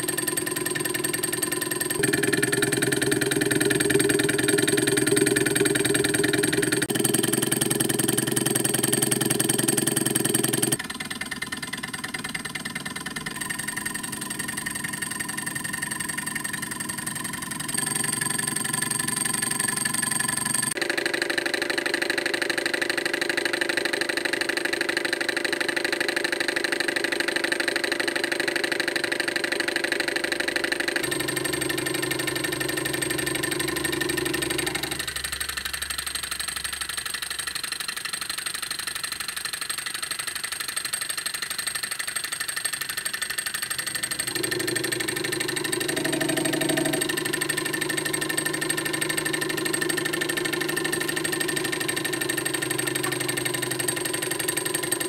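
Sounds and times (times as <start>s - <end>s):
small engine rapid mechanical whirr: 0.0s - 55.0s.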